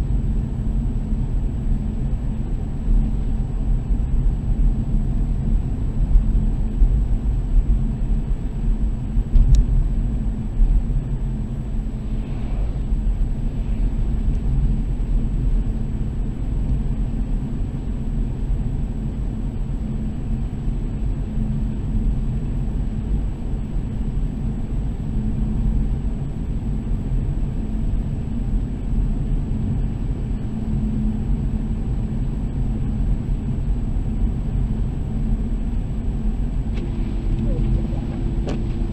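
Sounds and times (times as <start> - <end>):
car driving low rumble: 0.0 - 38.9
faint high-pitched whine: 0.0 - 38.9.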